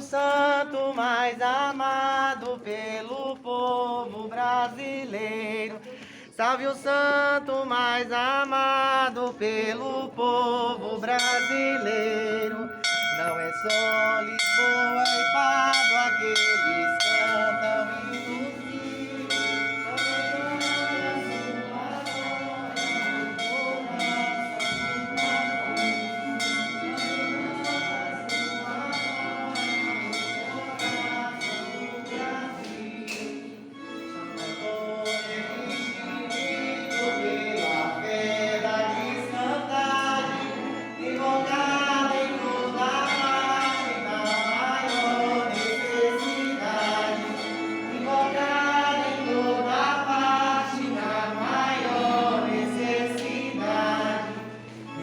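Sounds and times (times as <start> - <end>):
group singing a hymn: 0.0 - 55.0
bell ringing: 11.0 - 55.0.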